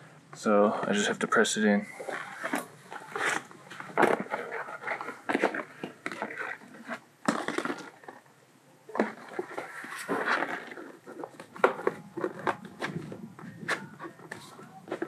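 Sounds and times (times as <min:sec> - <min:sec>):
stiff plastic rustling and scraping: 0:00.8 - 0:08.3, 0:08.9 - 0:15.0.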